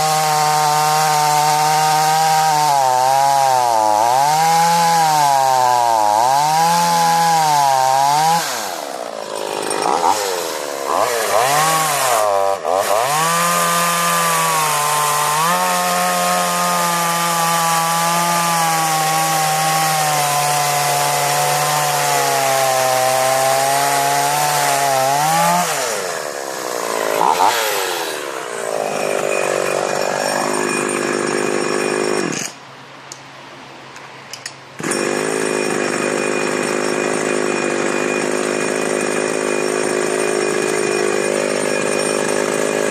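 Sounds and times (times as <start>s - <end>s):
chainsaw revving and cutting wood: 0.0s - 32.6s, 34.8s - 42.9s.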